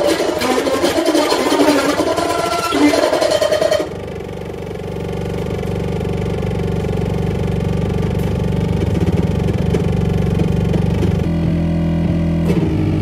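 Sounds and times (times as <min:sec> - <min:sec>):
buzzing feedback drone: 0:00.0 - 0:12.4.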